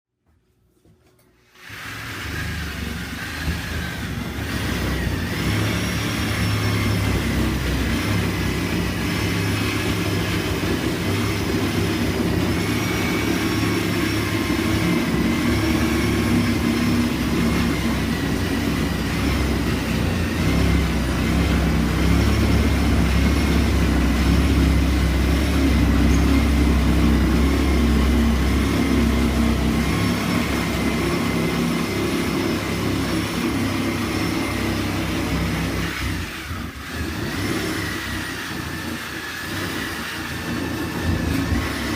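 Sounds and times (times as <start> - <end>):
reciprocating saw cutting: 1.4 - 41.9.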